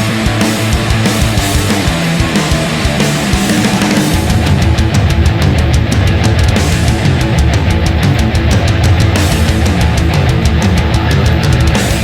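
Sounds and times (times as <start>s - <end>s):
distorted guitar: 0.0s - 12.0s
heavy rock music: 0.0s - 12.0s
steady drum beat: 0.0s - 12.0s.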